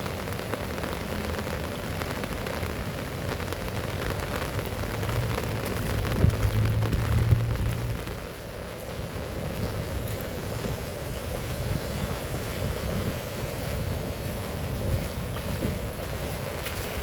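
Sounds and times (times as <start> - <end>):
heavy rain falling: 0.0 - 17.0
wind noise on microphone: 0.0 - 17.0.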